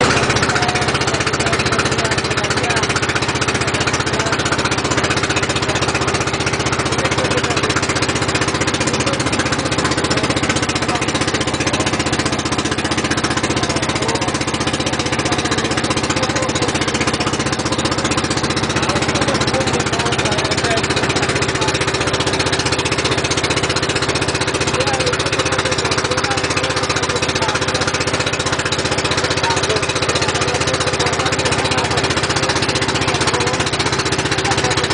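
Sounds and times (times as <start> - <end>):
boat engine drone: 0.0 - 34.9.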